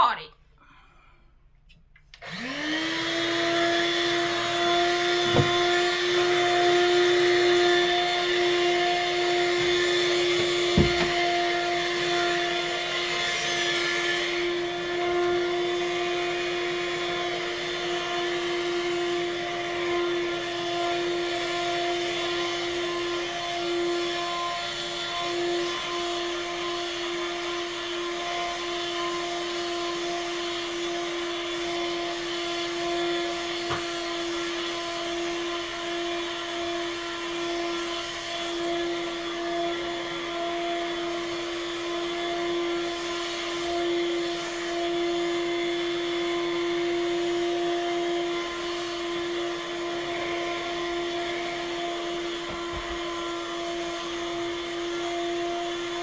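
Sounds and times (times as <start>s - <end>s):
vacuum cleaner running: 2.1s - 56.0s.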